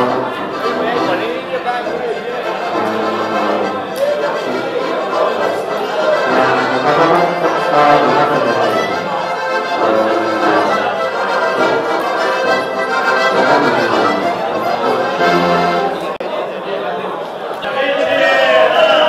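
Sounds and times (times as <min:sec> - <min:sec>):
button accordion playing folk tune: 0:00.0 - 0:16.2.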